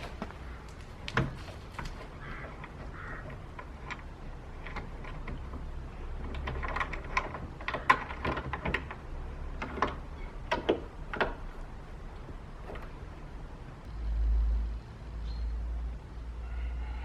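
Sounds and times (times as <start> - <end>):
light clicks and knocks: 0.0 - 13.9.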